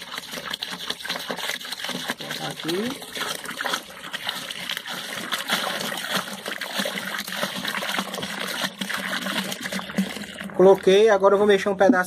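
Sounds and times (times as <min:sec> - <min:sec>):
water pouring into plastic drum: 0:00.0 - 0:11.7.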